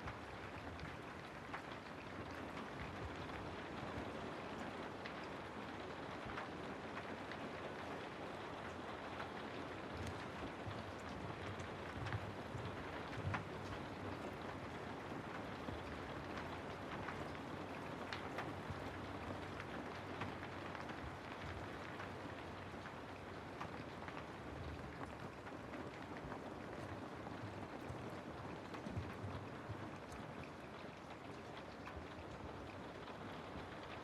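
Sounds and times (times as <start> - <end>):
rain falling through trees: 0.0 - 34.0.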